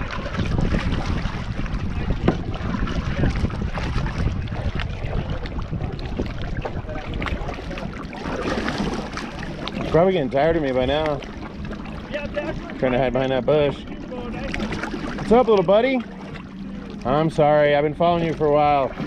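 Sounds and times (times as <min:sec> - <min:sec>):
water lapping and splashing: 0:00.0 - 0:19.0
wind buffeting microphone: 0:00.0 - 0:19.0.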